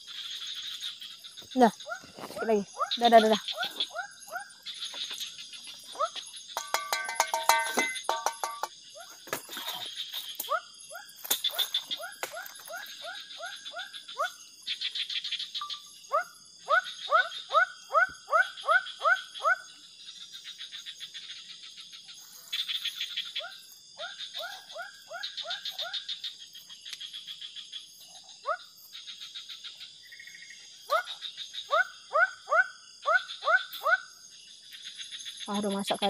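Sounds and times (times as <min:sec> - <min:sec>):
frogs calling: 0:00.0 - 0:36.0
high insect drone: 0:00.0 - 0:36.0.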